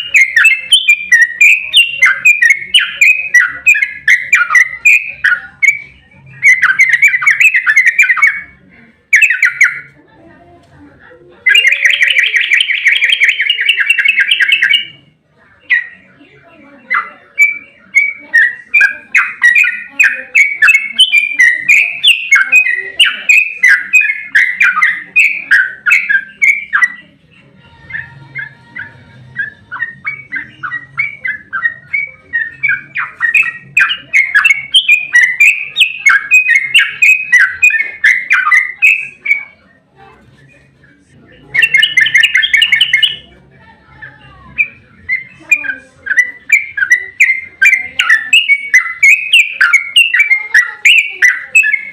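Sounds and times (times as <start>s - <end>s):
bird chattering song: 0.0s - 10.0s, 11.4s - 39.8s, 40.6s - 51.9s.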